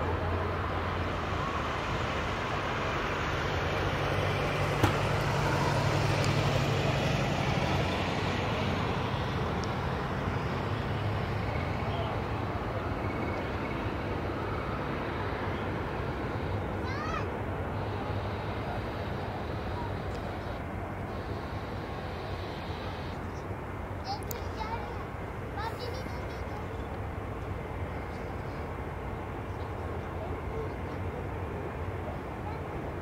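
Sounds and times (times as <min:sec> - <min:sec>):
aircraft engines rumbling: 0:00.0 - 0:33.0.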